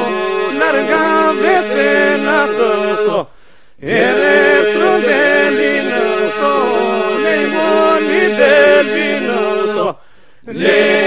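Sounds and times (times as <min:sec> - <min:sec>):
held vocal drone: 0:00.0 - 0:11.0
solo voices singing: 0:00.0 - 0:11.0.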